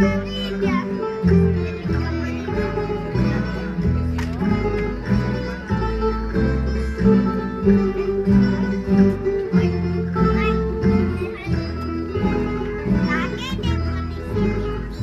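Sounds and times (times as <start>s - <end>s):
folk dance music on plucked strings: 0.0s - 15.0s.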